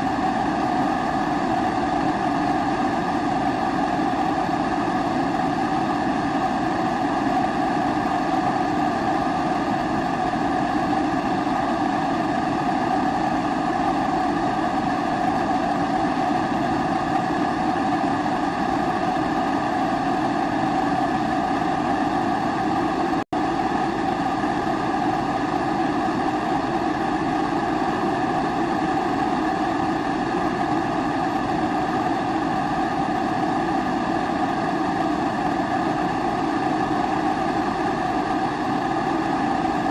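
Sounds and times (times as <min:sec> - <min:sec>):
pressure stove burner rushing: 0:00.0 - 0:39.9.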